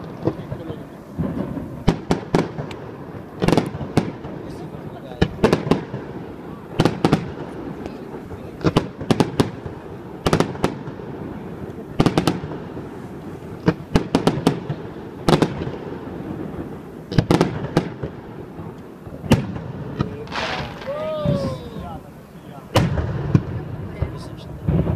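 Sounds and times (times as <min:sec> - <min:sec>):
firework bangs: 0:00.0 - 0:24.9
hiss of burning fireworks: 0:00.0 - 0:24.9.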